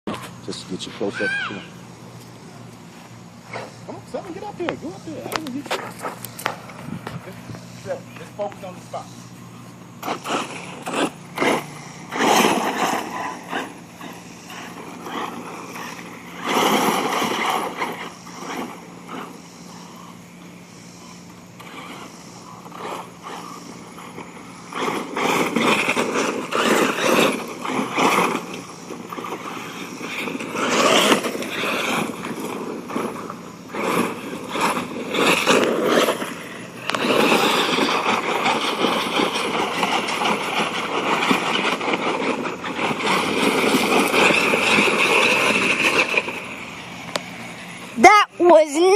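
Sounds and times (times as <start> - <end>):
electric motor whining: 0.1 - 48.9.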